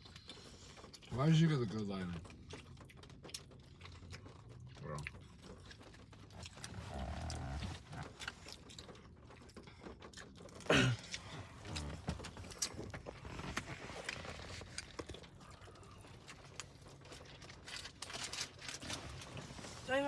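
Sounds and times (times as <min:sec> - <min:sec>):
chewing and mouth noises: 0:00.0 - 0:19.9.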